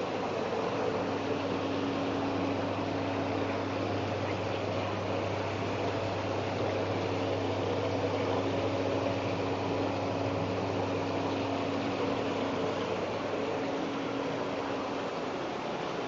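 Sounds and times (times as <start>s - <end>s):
bathtub pump motor humming: 0.0s - 16.0s.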